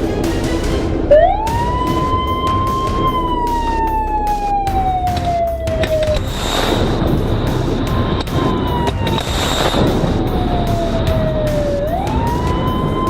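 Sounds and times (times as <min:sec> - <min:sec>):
music with a regular beat: 0:00.0 - 0:13.0
siren-like wail: 0:01.0 - 0:13.0.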